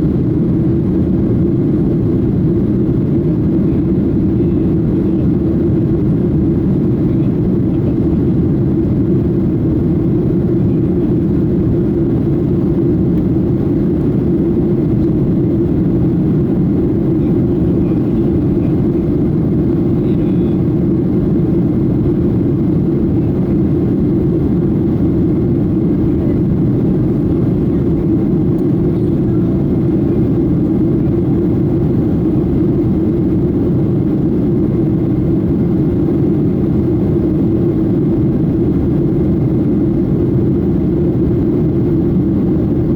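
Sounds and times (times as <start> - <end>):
jet engines rumbling: 0.0 - 42.9.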